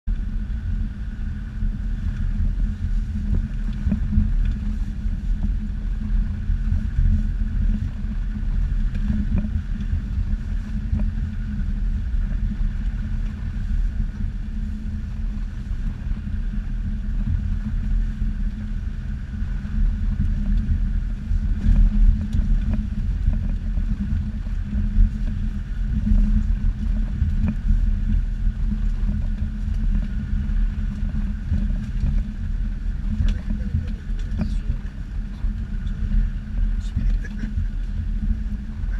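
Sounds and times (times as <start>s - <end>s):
vehicle engine low rumble: 0.0s - 38.9s.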